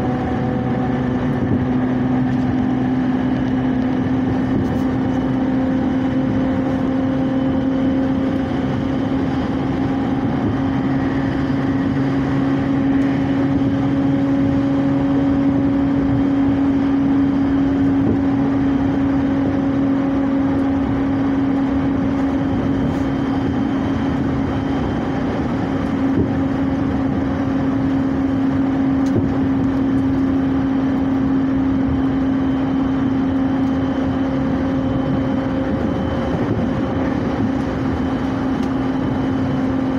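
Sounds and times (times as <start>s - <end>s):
low train hum: 0.0s - 39.9s
train wheels rumbling on rails: 0.0s - 39.9s.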